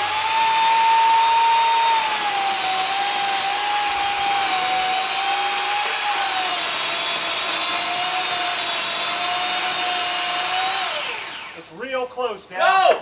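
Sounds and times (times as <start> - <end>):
electric chainsaw cutting: 0.0 - 11.7.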